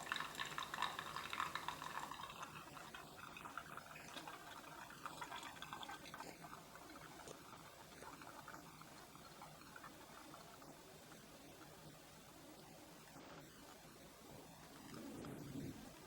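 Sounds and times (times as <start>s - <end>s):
coffee trickling and dripping: 0.0s - 16.0s.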